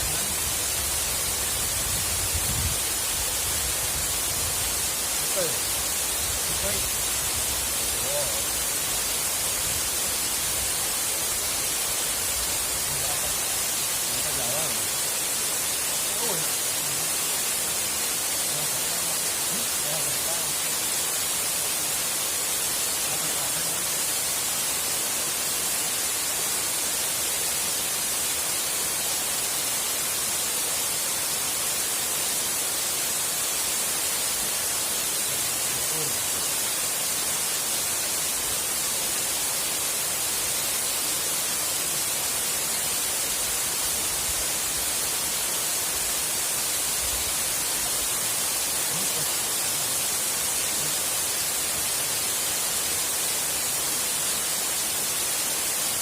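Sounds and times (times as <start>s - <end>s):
waterfall hiss: 0.0s - 56.0s.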